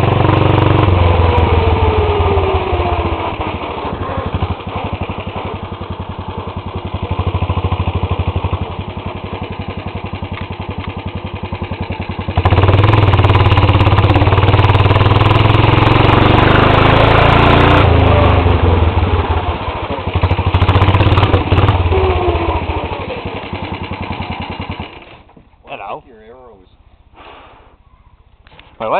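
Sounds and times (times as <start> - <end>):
lawn tractor engine running: 0.0 - 25.9.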